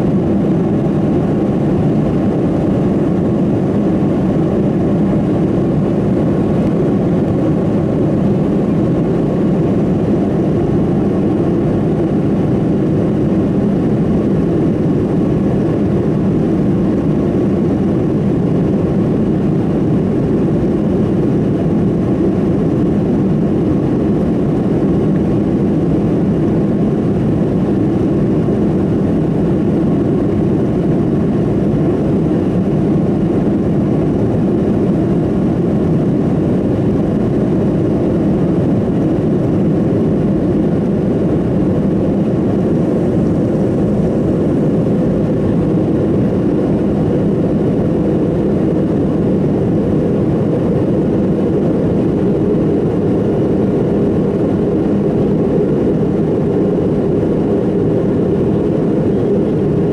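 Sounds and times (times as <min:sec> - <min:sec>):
airliner cabin noise: 0:00.0 - 0:59.9.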